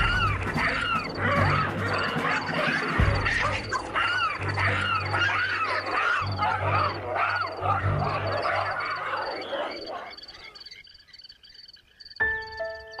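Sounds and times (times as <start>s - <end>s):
baboons grunting: 0.0s - 10.6s
baboons squealing: 0.0s - 10.7s.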